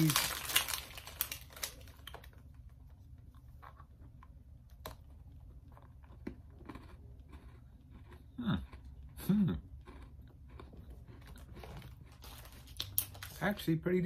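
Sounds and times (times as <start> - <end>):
person chewing cookie: 0.0 - 13.4.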